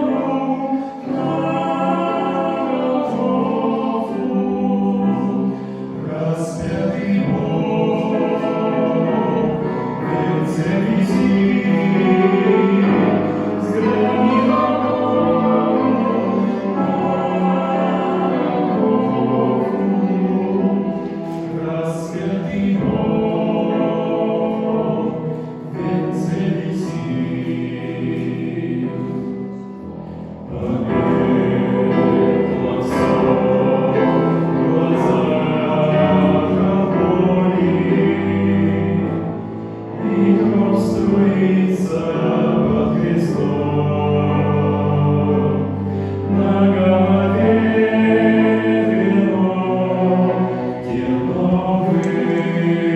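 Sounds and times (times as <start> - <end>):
choir singing a slow hymn: 0.0 - 52.9.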